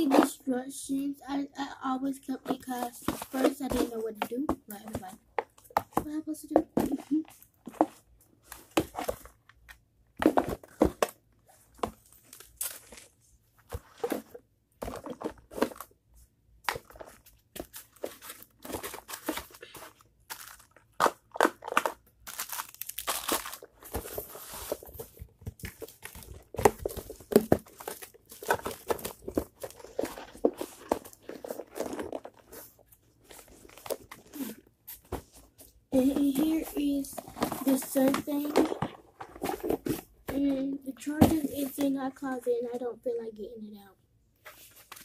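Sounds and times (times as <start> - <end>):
paper and cardboard rustling: 2.3 - 15.9, 16.7 - 42.9, 44.4 - 45.0.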